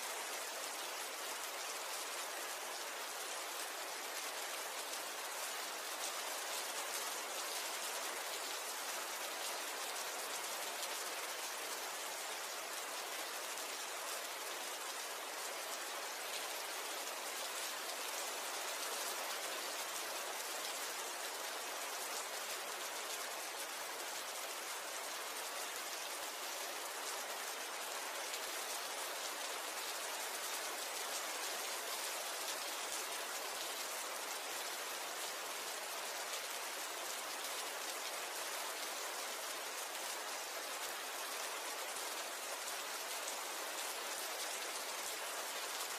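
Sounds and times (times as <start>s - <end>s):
steady rain pattering: 0.0s - 45.9s.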